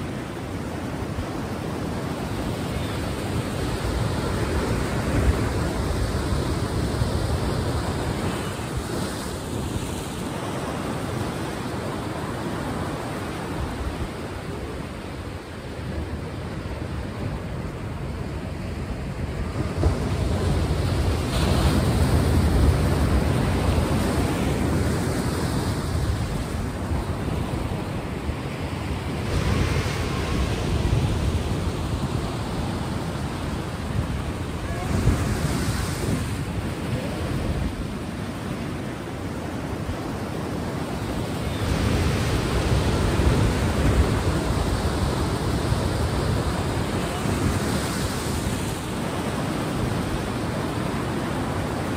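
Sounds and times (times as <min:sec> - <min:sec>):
ocean waves washing: 0:00.0 - 0:51.9.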